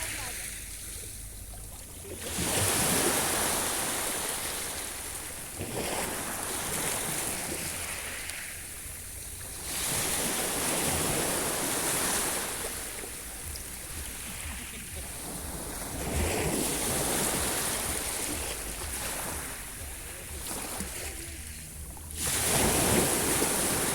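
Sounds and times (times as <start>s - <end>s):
sea waves breaking on shore: 0.0s - 23.9s.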